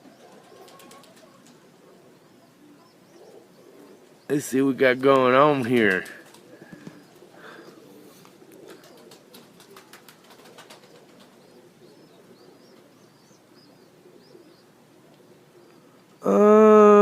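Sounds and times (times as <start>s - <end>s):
pigeons cooing: 0.0s - 16.5s.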